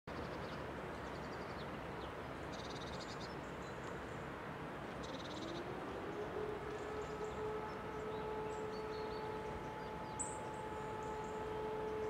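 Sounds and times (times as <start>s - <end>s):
outdoor background hiss: 0.1s - 12.0s.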